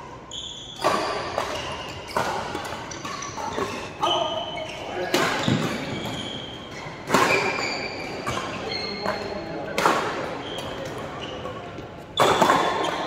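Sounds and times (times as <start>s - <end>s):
shoes squeaking on court: 0.2s - 13.0s
rackets hitting shuttlecock: 0.8s - 4.2s, 5.0s - 13.0s.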